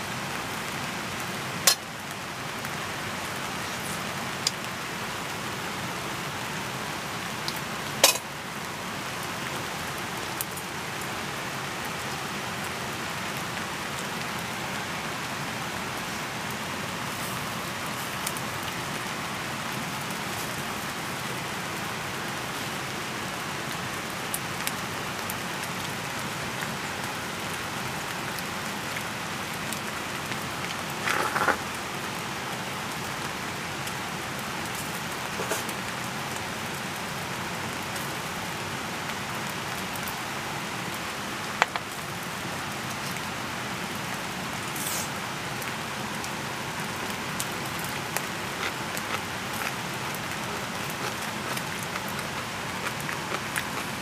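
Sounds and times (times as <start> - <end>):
fish sizzling on charcoal grill: 0.1 - 5.8, 6.8 - 15.3, 16.0 - 25.5, 28.1 - 54.0.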